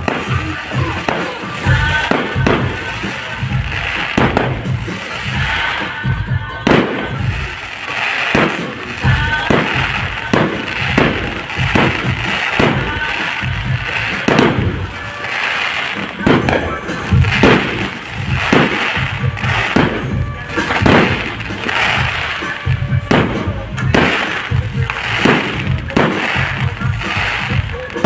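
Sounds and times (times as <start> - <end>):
fireworks bangs and crackles: 0.0 - 28.0
music playing: 0.0 - 28.0.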